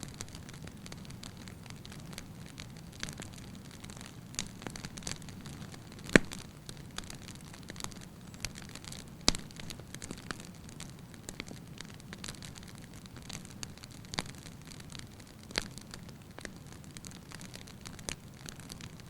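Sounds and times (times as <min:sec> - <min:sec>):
fire crackles and pops: 0:00.0 - 0:19.0.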